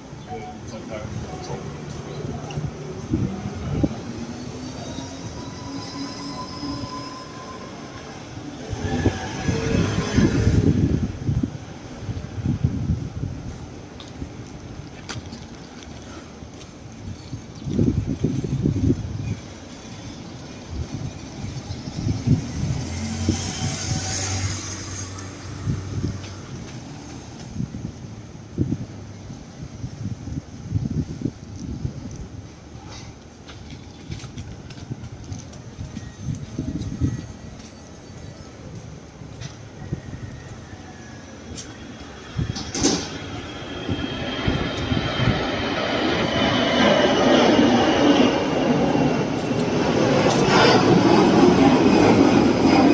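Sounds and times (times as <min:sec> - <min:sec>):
vehicle passing on road: 0:00.0 - 0:17.1, 0:17.7 - 0:52.9.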